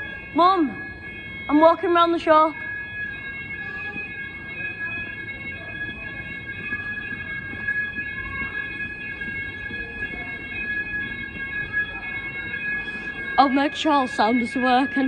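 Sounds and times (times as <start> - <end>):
fire alarm high-pitched tone: 0.0 - 15.0.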